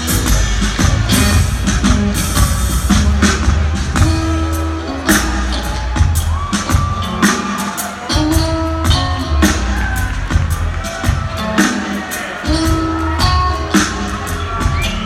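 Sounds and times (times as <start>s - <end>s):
drum hits: 0.0s - 15.0s
live band playing: 0.0s - 15.0s.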